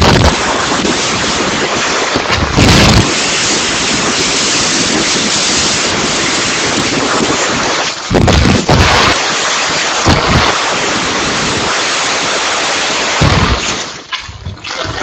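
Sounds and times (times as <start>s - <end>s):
wind and heavy rain: 0.0s - 15.0s
wind gusts buffeting microphone: 0.0s - 15.0s.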